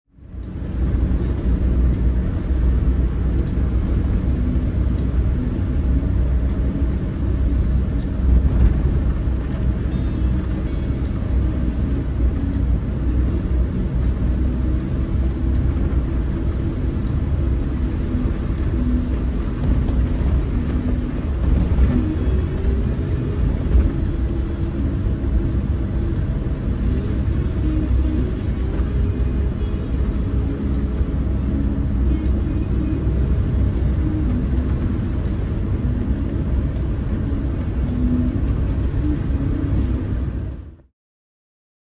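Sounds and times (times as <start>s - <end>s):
vehicle engine and tyre rumble: 0.1s - 40.9s.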